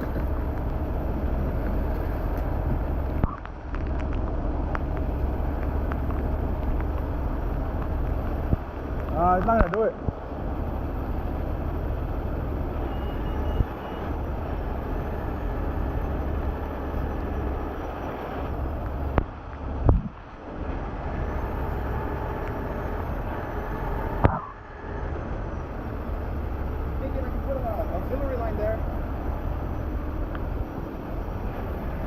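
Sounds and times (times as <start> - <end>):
vehicle engines rumbling: 0.0 - 32.0.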